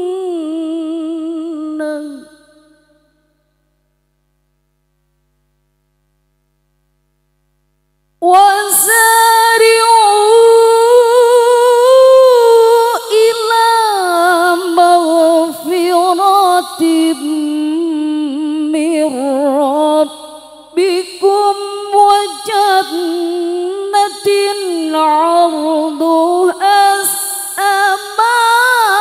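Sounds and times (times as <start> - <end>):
woman reciting melodically: 0.0 - 3.0, 8.2 - 29.0.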